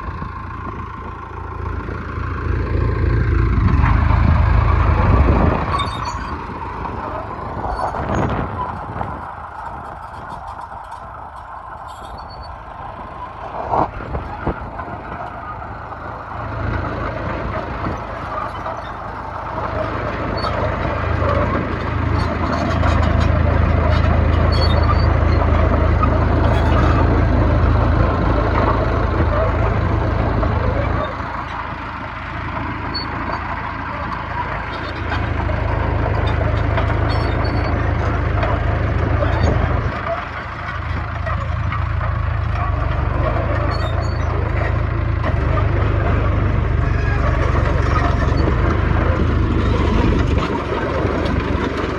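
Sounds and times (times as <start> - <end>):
bulldozer diesel engine drone: 0.0 - 51.9.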